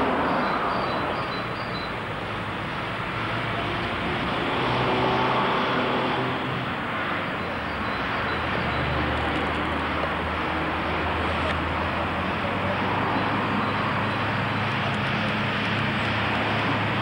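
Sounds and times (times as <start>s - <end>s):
road traffic noise: 0.0s - 17.0s
vehicle engine humming: 0.0s - 17.0s.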